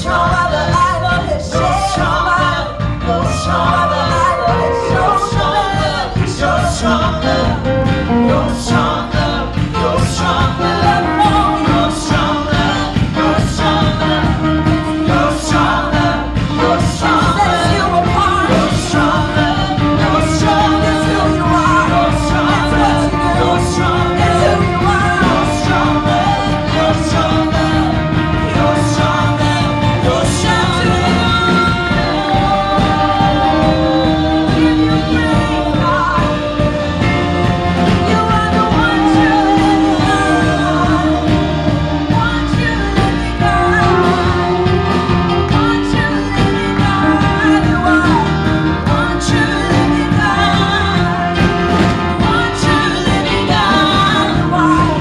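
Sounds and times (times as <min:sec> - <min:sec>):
band playing worship music: 0:00.0 - 0:55.0
voices singing: 0:00.0 - 0:55.0.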